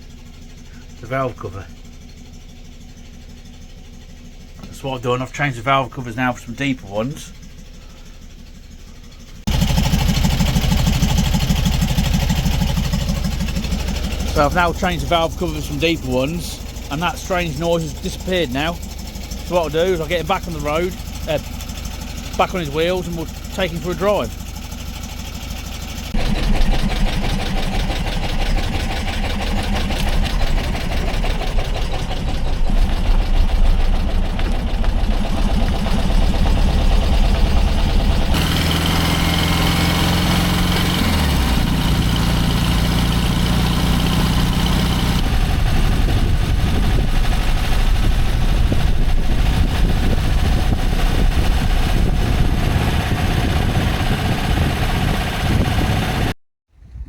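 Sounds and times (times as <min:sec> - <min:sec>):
air-cooled engine running: 0:00.0 - 0:56.4.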